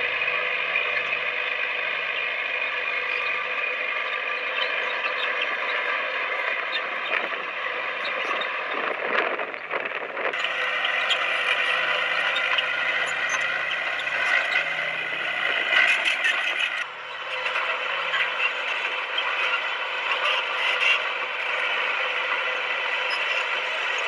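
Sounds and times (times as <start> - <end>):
bulldozer diesel engine whine: 0.0 - 24.0.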